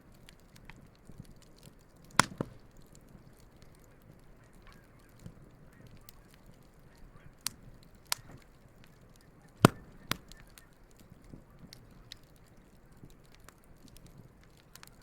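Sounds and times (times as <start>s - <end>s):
campfire crackling: 0.0s - 15.0s
sharp fire pops: 0.1s - 15.0s.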